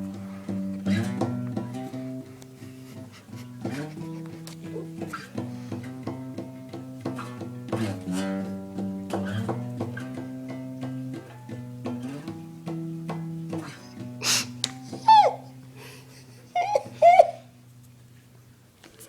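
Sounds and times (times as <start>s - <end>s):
guitar plucked notes and chords: 0.0s - 15.8s.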